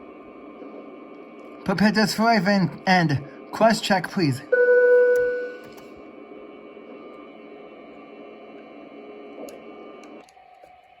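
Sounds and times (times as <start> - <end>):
cabin ventilation air hiss and hum: 0.0 - 11.0.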